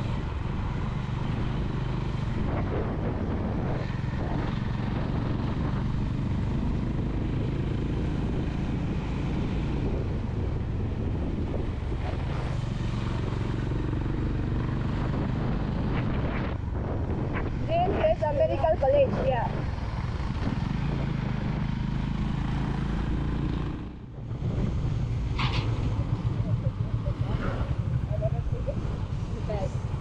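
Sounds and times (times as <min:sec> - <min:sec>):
motorcycle engine drone: 0:00.0 - 0:30.0
wind and road noise: 0:00.0 - 0:30.0.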